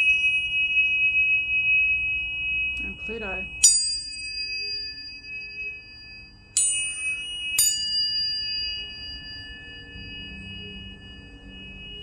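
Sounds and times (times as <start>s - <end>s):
tuning forks ringing: 0.0s - 12.0s.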